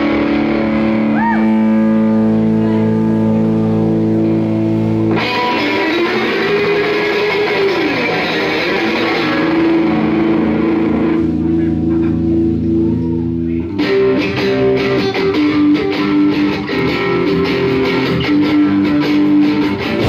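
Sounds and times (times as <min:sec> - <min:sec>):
electric guitar chord ringing: 0:00.0 - 0:20.0
rock band playing: 0:00.0 - 0:20.0.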